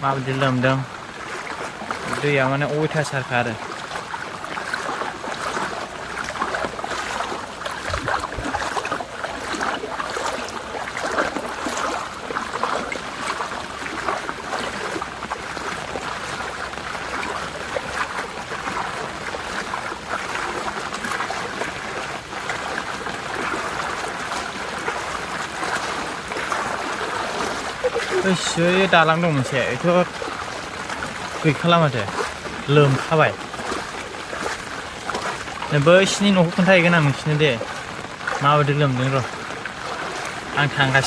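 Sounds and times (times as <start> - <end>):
floodwater rushing: 0.0 - 41.0
small water splashes: 0.0 - 41.0.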